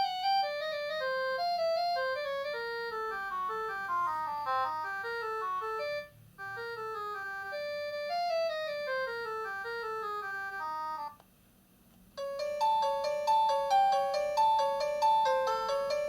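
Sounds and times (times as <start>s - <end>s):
electronic ringtone melody: 0.0s - 11.2s, 12.2s - 16.0s.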